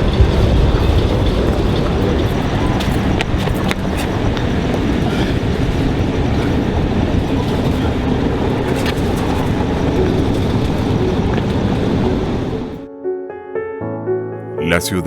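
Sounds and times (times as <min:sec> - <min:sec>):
loud steady rumbling: 0:00.0 - 0:12.8.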